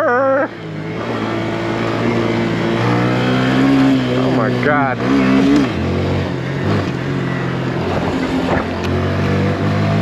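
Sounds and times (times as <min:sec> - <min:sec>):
motorbike engine running: 0:00.0 - 0:10.0.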